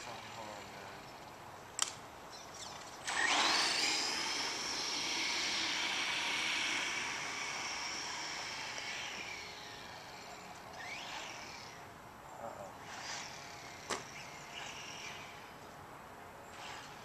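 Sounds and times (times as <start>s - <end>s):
rc truck motor whine: 2.3s - 15.7s, 16.5s - 17.0s.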